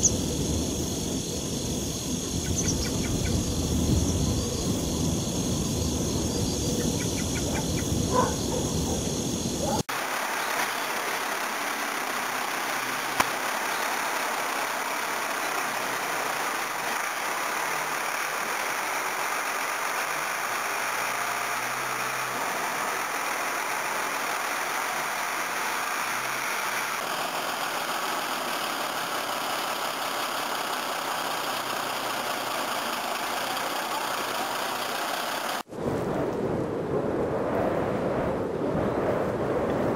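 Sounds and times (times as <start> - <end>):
tractor diesel engine running: 0.0 - 35.7.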